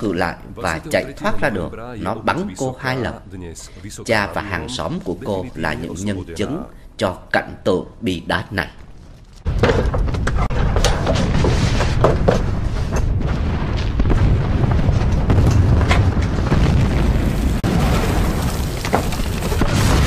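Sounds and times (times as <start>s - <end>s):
low rumble of explosions: 0.0s - 20.0s.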